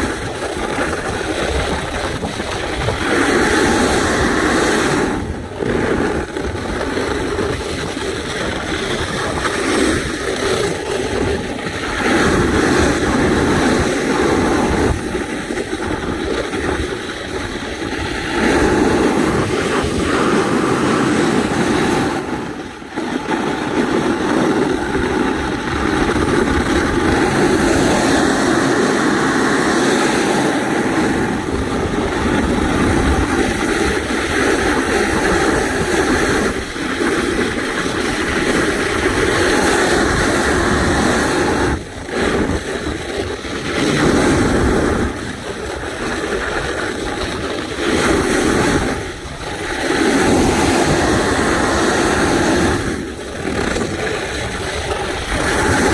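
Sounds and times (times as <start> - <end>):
snowboard scraping on snow: 0.0 - 55.9
wind on microphone: 0.0 - 55.9.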